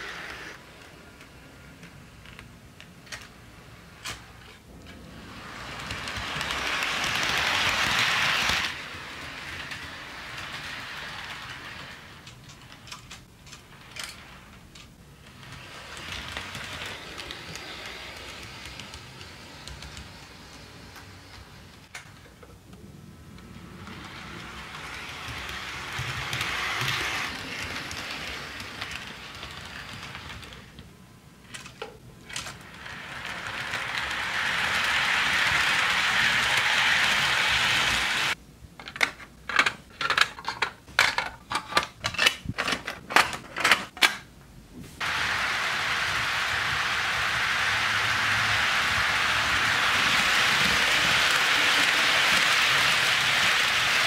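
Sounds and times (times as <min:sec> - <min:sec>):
model train wheels rattling on rail: 0:03.0 - 0:22.5, 0:23.4 - 0:43.9, 0:45.0 - 0:54.0.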